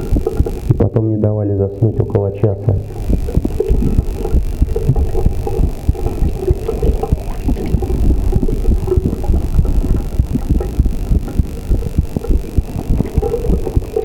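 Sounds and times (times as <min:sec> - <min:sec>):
heartbeat thumps: 0:00.0 - 0:00.9, 0:01.8 - 0:14.0.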